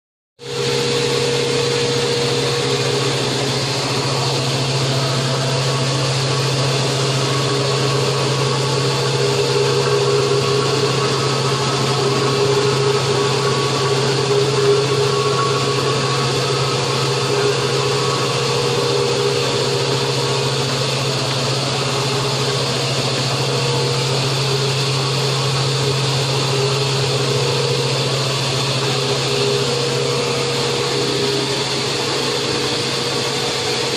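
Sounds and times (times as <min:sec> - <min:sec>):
metal lathe running: 0:00.4 - 0:33.9.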